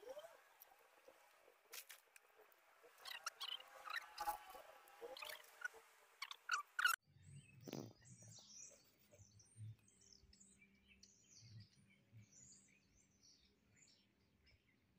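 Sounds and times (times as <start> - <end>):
faint birds chirping: 0.0 - 14.9.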